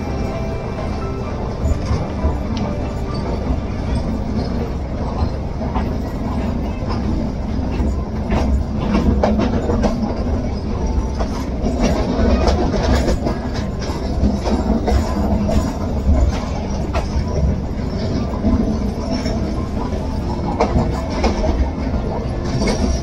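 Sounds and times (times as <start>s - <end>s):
train wheel rumble: 0.0s - 23.0s
wheels clacking over rail joints: 0.0s - 23.0s.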